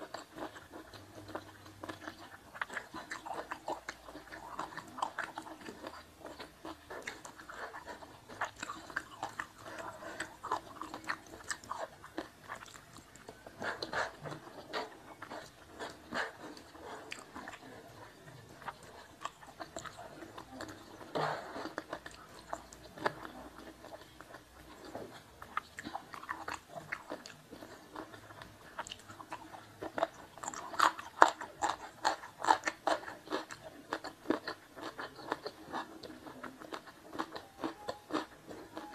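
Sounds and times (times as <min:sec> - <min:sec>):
chewing and biting food: 0:00.0 - 0:38.9.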